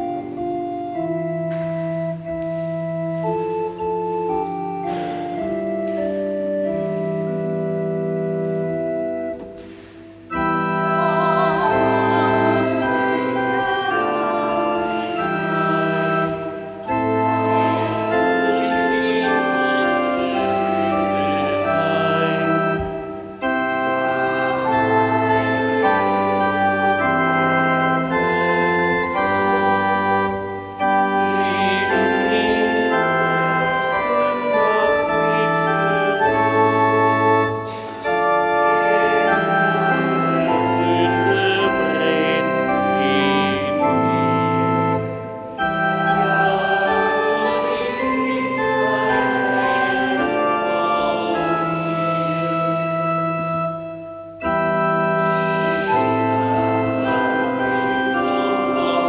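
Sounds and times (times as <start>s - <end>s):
organ playing slow chords: 0.0s - 59.0s.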